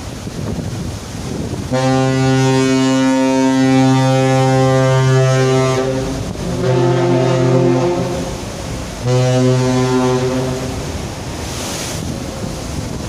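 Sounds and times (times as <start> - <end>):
deep ship horn blasts: 1.6 - 12.7.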